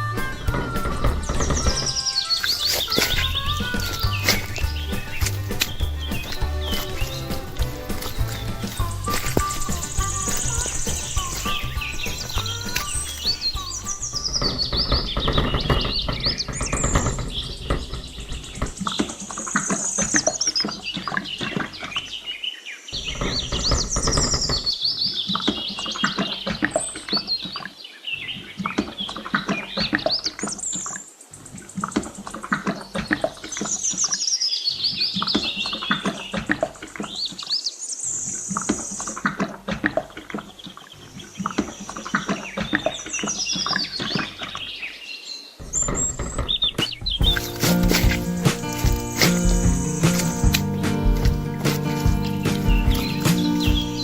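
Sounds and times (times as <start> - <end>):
birds chirping and tweeting: 0.0 - 54.0.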